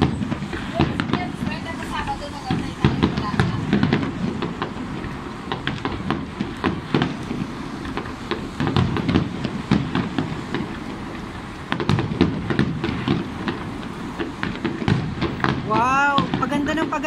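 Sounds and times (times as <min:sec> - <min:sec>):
distant firework bangs and crackles: 0:00.0 - 0:17.0.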